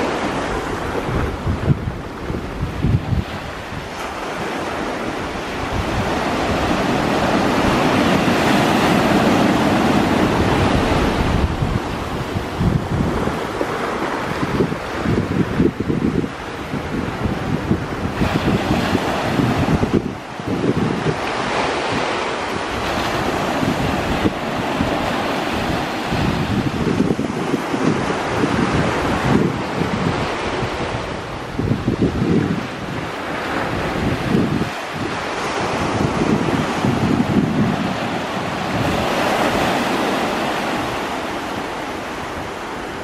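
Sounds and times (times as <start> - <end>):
steady rushing noise: 0.0 - 43.0
wind buffeting microphone: 0.0 - 43.0.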